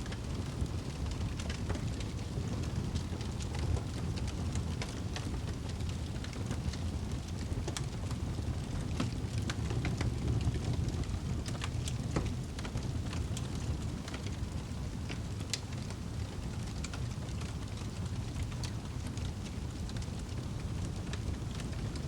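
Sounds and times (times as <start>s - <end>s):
burning wood crackling and popping: 0.0s - 22.0s
low rumble of flames: 0.0s - 22.0s.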